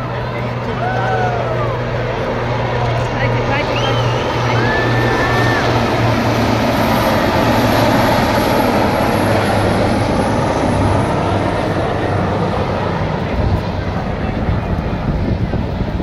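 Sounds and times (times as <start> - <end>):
helicopters flying overhead: 0.0 - 16.0.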